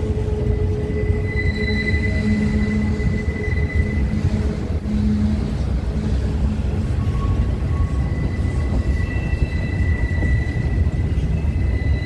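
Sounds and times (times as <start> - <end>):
high-pitched wheel squeal: 0.0 - 5.5, 6.2 - 12.0
train rumbling: 0.0 - 12.0.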